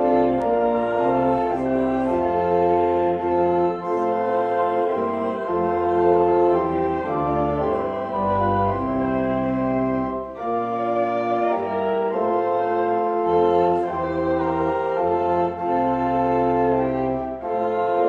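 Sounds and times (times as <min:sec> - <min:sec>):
pipe organ playing chords: 0:00.0 - 0:18.0.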